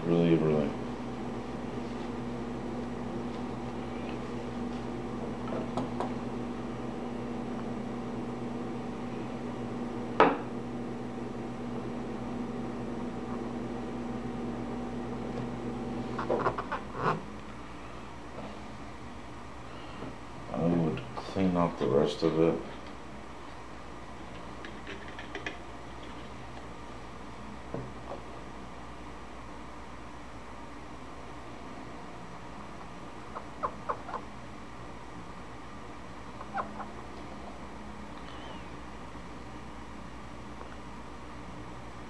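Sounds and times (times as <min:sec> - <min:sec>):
electrical hum with tones: 0:00.0 - 0:42.0.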